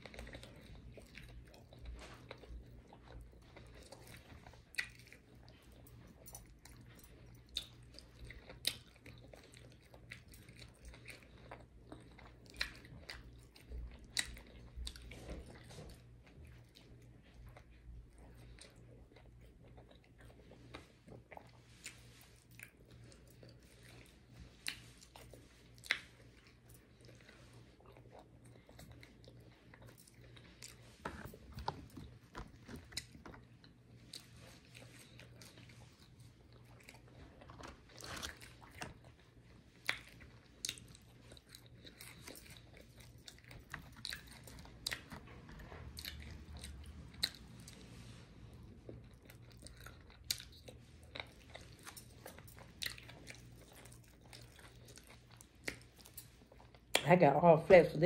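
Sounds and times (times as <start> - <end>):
chewing crunchy food: 0.0 - 57.2.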